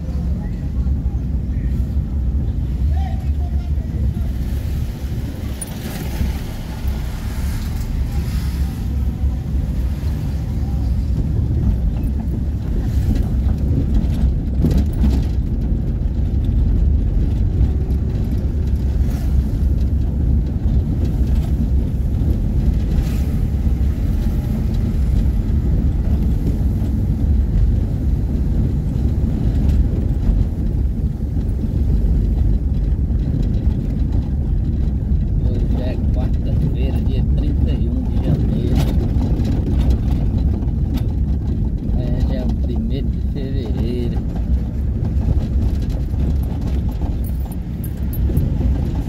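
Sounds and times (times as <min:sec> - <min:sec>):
vehicle engine and road noise: 0:00.0 - 0:49.0
wind buffeting microphone: 0:00.0 - 0:49.0.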